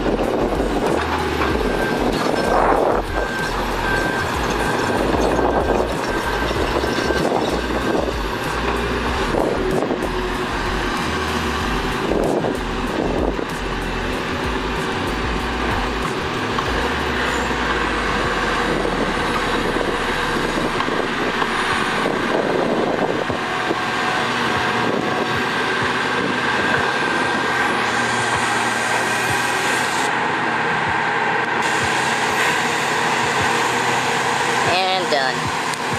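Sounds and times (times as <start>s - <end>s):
heavy diesel machinery running: 0.0s - 35.9s.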